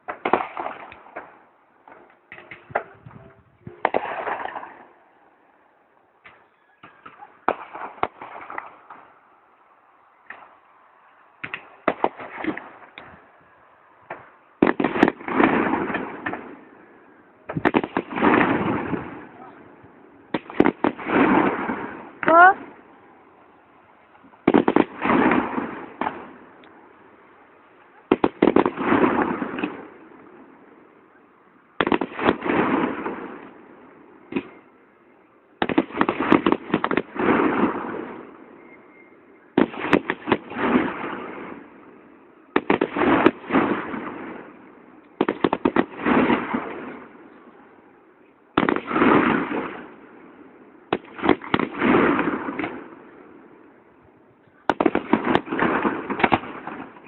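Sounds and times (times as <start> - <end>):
fireworks bangs and crackling: 0.0 - 5.2, 6.2 - 9.2, 10.2 - 10.6, 11.4 - 13.4, 14.0 - 23.2, 24.0 - 31.0, 31.7 - 34.8, 35.6 - 47.9, 48.5 - 57.0.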